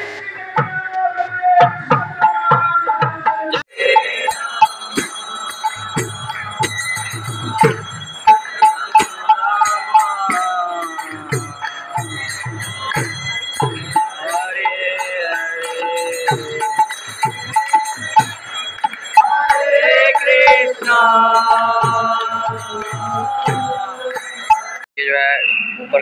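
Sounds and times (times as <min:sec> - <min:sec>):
devotional singing: 0:00.0 - 0:17.4, 0:19.0 - 0:24.6
drum beats: 0:00.0 - 0:24.8
hand bells ringing: 0:03.8 - 0:24.9.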